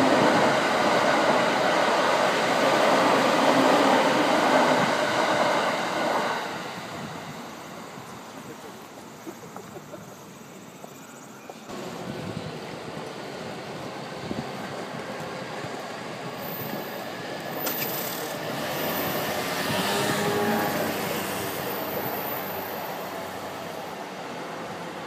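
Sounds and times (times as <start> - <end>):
train rail rumble: 0.0 - 25.0.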